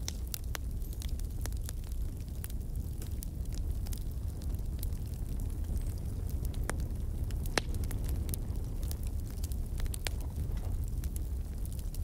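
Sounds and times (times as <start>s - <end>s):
fire pops and snaps: 0.0s - 12.0s
flames rumbling: 0.0s - 12.0s
wood fire crackling: 0.0s - 12.0s.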